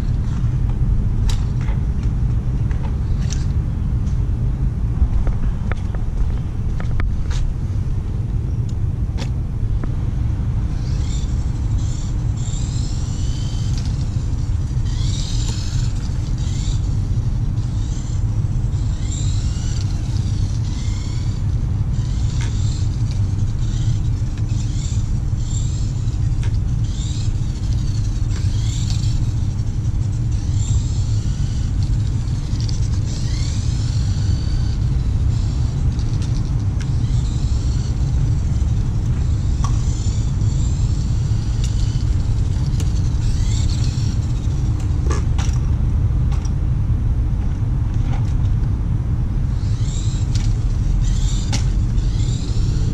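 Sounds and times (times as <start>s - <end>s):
small electric motor whining: 0.0s - 45.8s, 49.4s - 52.9s
steady low rumble: 0.0s - 52.9s.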